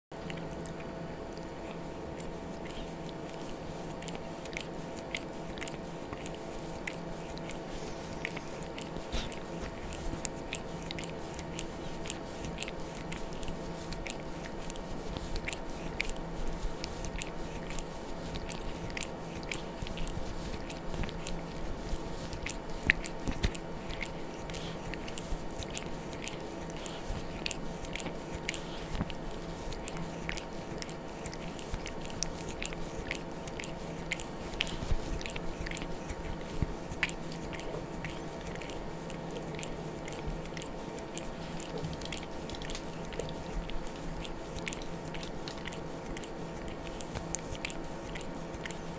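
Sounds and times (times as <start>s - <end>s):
steady hum: 0.1s - 48.9s
cat licking: 0.2s - 48.9s.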